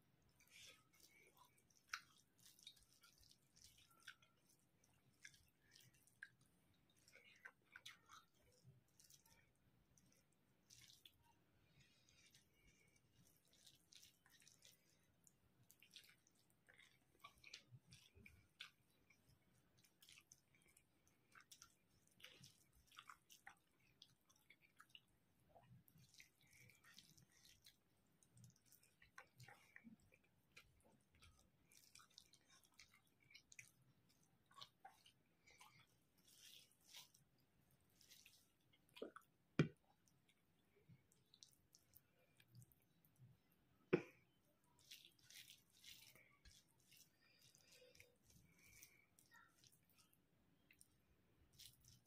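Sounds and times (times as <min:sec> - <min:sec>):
faint chewing: 0:00.0 - 0:52.0
fingers squishing rice and curry: 0:00.0 - 0:52.0.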